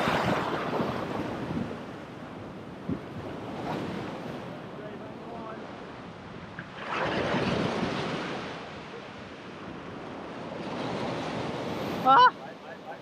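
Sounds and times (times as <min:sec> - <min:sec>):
wind buffeting microphone: 0:00.0 - 0:12.1
ocean surf on rocks: 0:00.0 - 0:13.0.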